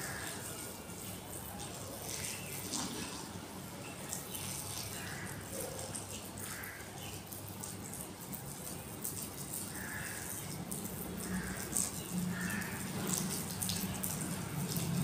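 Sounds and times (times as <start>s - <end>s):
water stream splashing on ground: 0.0s - 15.0s.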